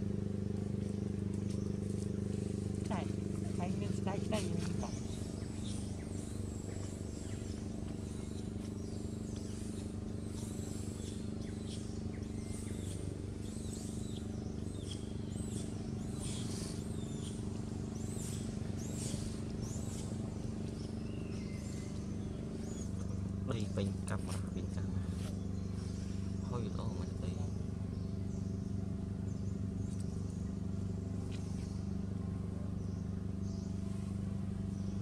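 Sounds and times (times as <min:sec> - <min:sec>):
birds chirping: 0:00.0 - 0:35.0
steady low hum: 0:00.0 - 0:35.0.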